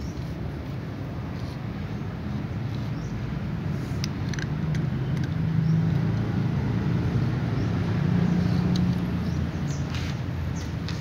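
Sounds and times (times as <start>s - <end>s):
motor vehicle humming: 0.0s - 11.0s.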